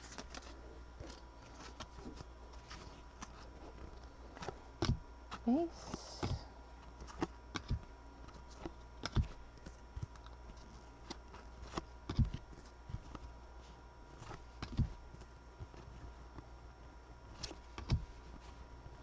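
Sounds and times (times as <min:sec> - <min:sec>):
cards flipping and tapping: 0:00.0 - 0:16.5, 0:17.3 - 0:18.5.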